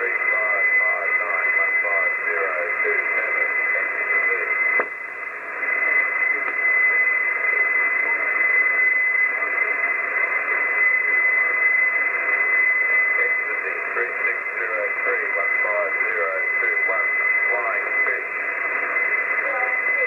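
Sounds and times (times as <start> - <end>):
radio click: 0.0 - 20.0
radio static hiss: 0.0 - 20.0.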